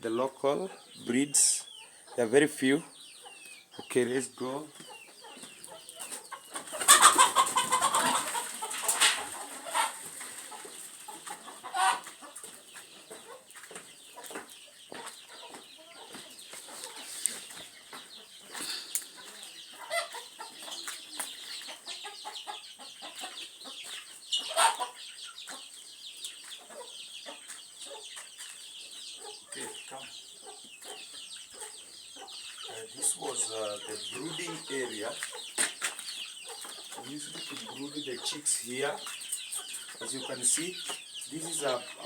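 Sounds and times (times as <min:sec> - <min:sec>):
chickens clucking: 0:00.0 - 0:42.0
chickens squawking: 0:00.0 - 0:42.0.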